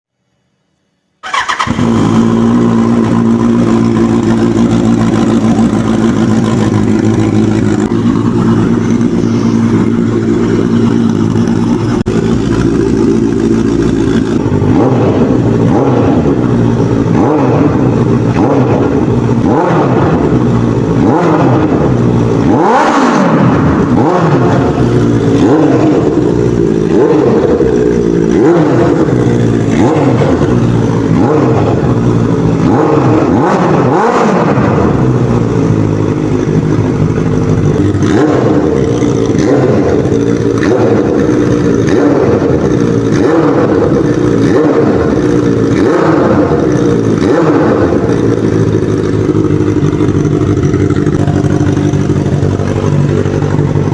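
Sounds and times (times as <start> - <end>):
motorcycle engine idling: 1.2 - 53.9
motorcycle engine revving: 1.2 - 53.9.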